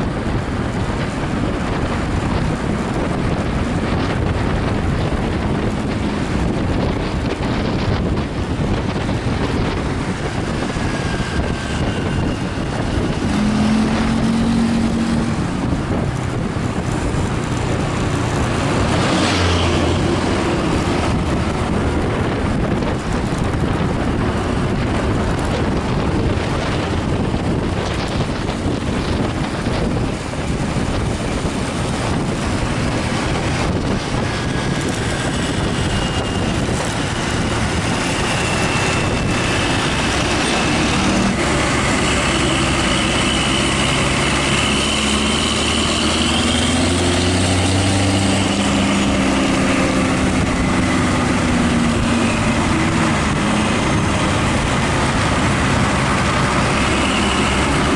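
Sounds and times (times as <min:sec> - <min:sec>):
bus engine under load: 0:00.0 - 0:57.9
wind and road noise: 0:00.0 - 0:57.9.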